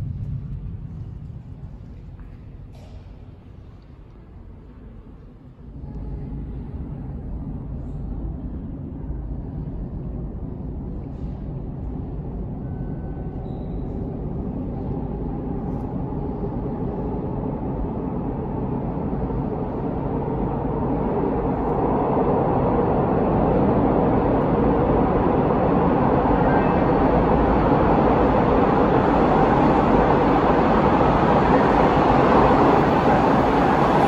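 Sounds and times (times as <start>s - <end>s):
subway train rumble: 0.0s - 34.0s.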